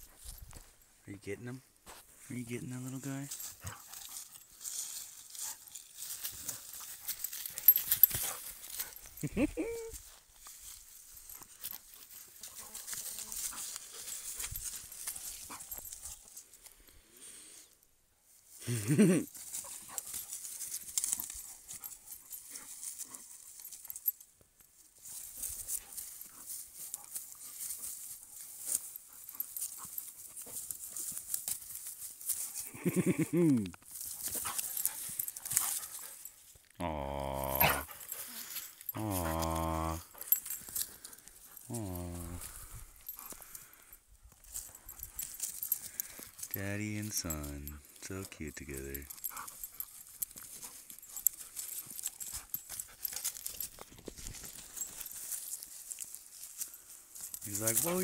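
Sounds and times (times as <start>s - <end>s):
dog rolling in dry grass: 3.4s - 16.4s, 19.1s - 24.0s, 24.9s - 46.6s, 49.0s - 58.0s.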